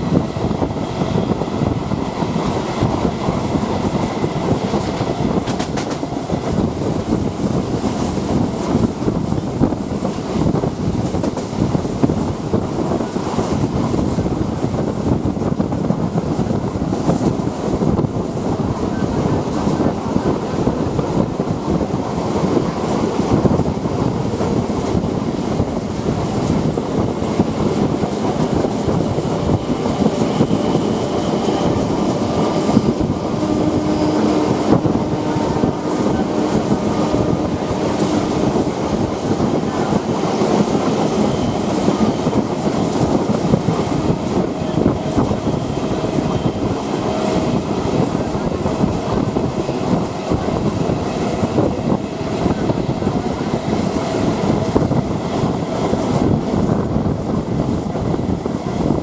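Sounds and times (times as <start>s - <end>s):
train rumbling and rattling: 0.0s - 59.0s.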